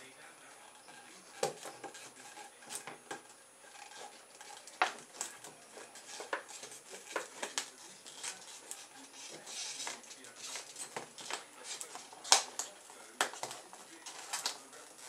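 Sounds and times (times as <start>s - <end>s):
plastic bottle clicks and scrapes: 0.8s - 15.0s.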